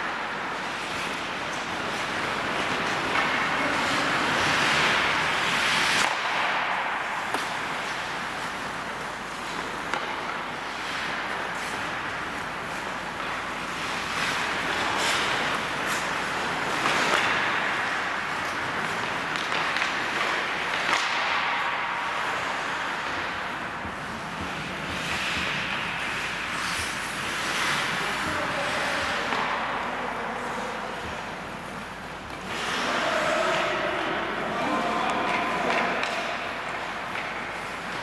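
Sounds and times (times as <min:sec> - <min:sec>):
hockey sticks and puck clicks: 0:00.0 - 0:38.0
skate blades scraping on ice: 0:00.0 - 0:38.0.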